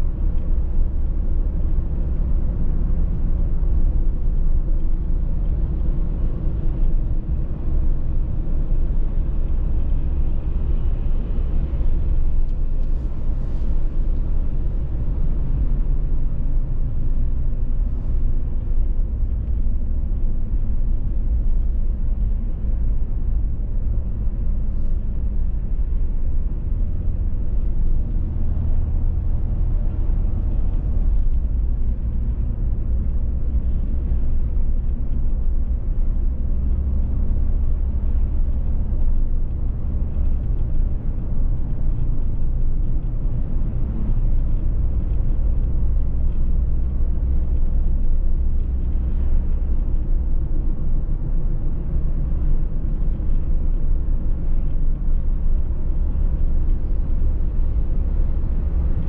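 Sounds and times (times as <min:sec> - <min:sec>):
car driving at steady speed: 0:00.0 - 0:59.0.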